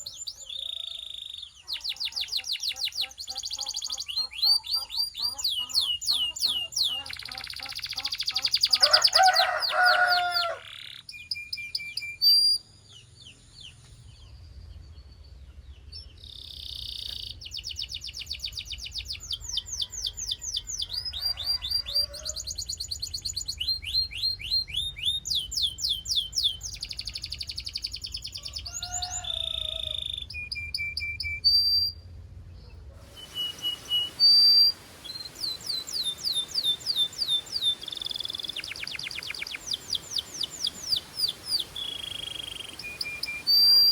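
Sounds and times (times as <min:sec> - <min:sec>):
canary singing trills: 0:00.0 - 0:13.8, 0:16.0 - 0:32.1, 0:33.0 - 0:43.9.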